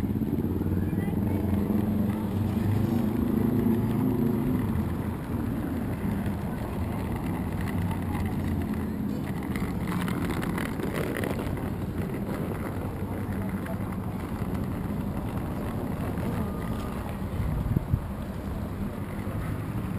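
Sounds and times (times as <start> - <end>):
urban background noise: 0.0 - 19.9
vehicle engines running: 0.0 - 19.9.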